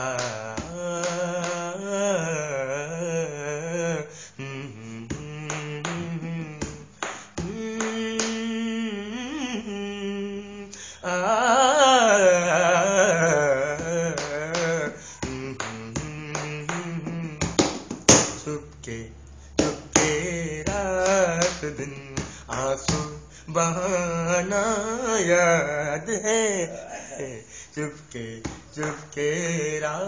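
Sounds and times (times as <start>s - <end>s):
man singing wordlessly: 0.0s - 30.0s.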